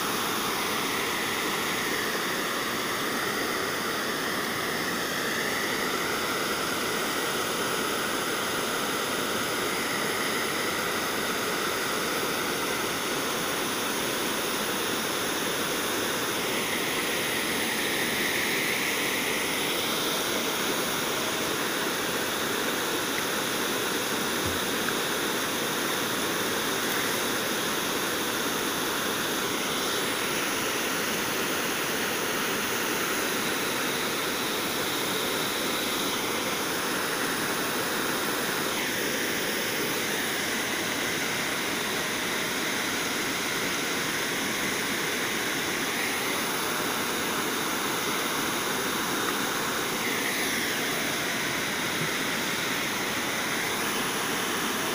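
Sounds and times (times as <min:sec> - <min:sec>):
river water rushing down cascade: 0:00.0 - 0:54.9.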